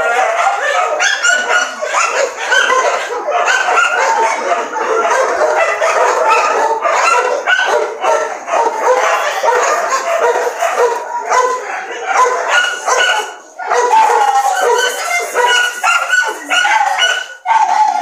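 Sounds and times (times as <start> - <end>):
dogs barking and yipping: 0.0 - 18.0.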